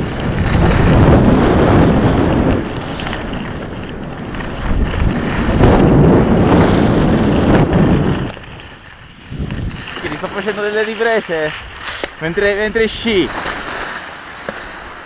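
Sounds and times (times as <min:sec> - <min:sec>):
wind rushing over microphone: 0:00.0 - 0:13.9.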